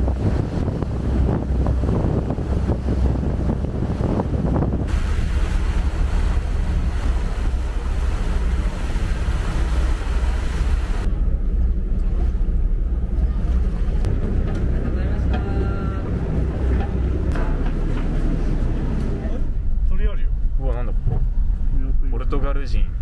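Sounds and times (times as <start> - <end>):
water rushing past hull: 0.0 - 22.1
wind on microphone: 0.0 - 22.1
ferry engine rumble: 0.0 - 23.0.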